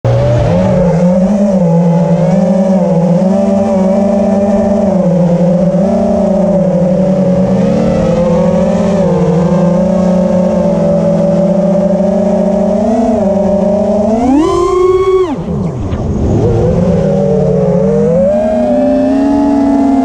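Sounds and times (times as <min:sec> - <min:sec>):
drone motors buzzing whine: 0:00.1 - 0:20.0.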